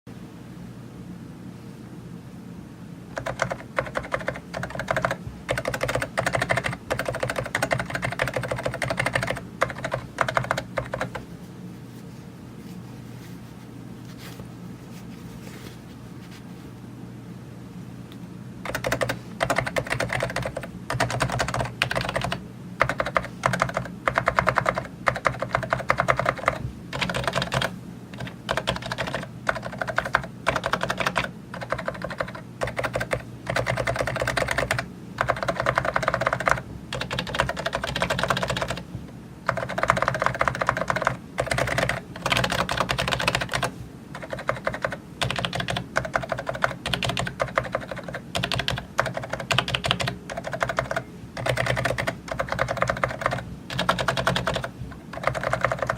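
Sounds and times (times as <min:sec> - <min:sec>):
keyboard typing: 0:03.1 - 0:11.3, 0:18.6 - 0:55.9.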